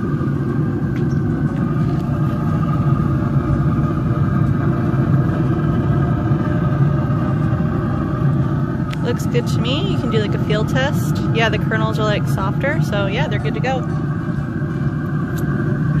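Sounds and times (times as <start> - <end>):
grill fan humming: 0.0 - 16.0.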